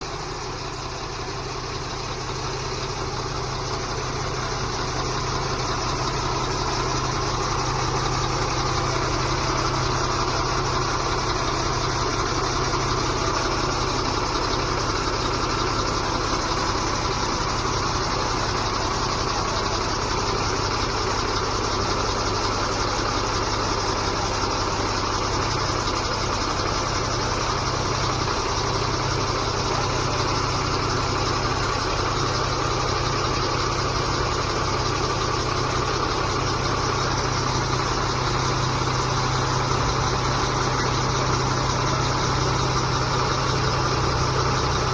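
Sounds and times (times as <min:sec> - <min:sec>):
truck diesel engine idling: 0:00.0 - 0:44.9.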